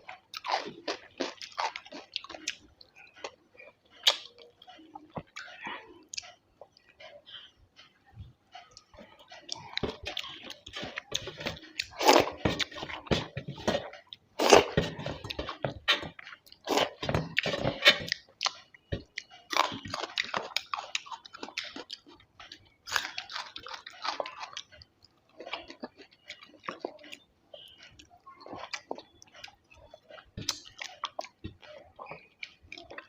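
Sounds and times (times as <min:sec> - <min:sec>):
chewing with wet mouth noises: 0:00.0 - 0:33.0.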